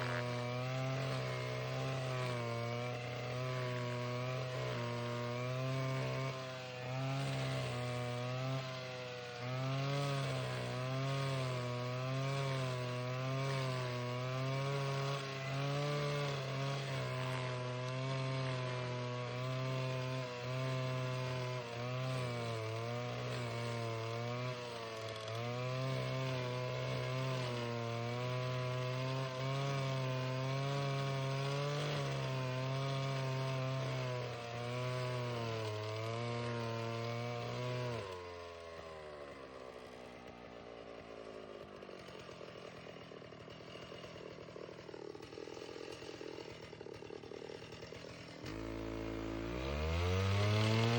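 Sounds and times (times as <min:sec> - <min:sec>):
rough grinding of wood: 0:00.0 - 0:50.9
stump grinder engine at high speed: 0:00.0 - 0:50.9.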